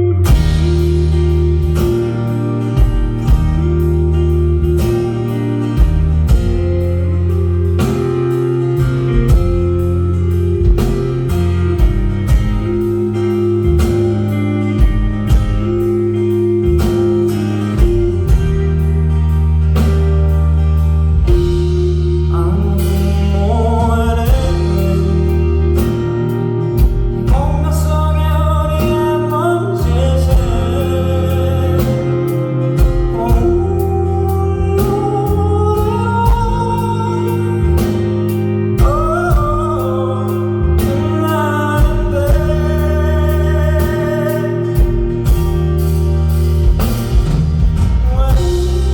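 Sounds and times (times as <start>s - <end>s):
high melodic lead with sliding notes: 0.0s - 48.9s
live rock band playing: 0.0s - 48.9s.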